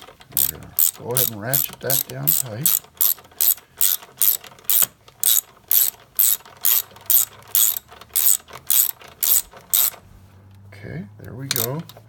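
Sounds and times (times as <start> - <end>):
ratchet wrench clicking: 0.4 - 10.0, 11.5 - 12.0.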